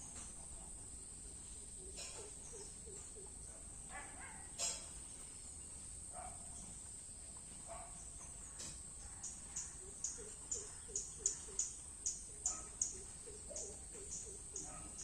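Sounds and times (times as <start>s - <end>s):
crickets droning: 0.0s - 15.0s
faint chirps: 0.0s - 15.0s.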